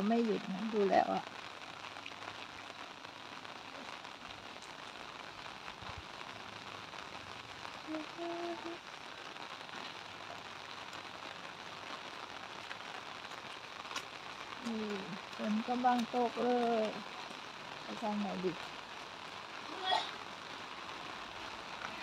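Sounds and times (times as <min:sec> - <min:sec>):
light rain on pavement: 0:00.0 - 0:22.0.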